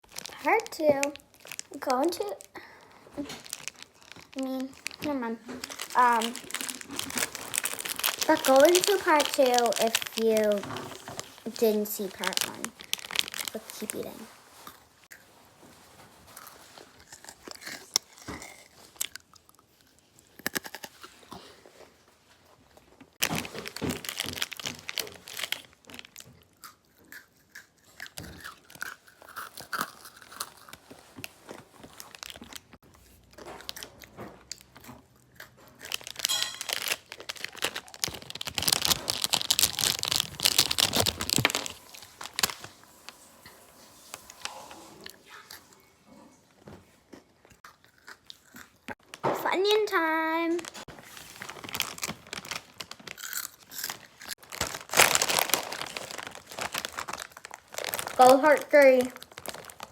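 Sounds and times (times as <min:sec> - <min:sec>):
person chewing crunchy food: 0:00.0 - 0:15.3, 0:16.3 - 0:21.9, 0:23.2 - 0:42.8, 0:47.2 - 0:49.0, 0:50.7 - 0:59.9.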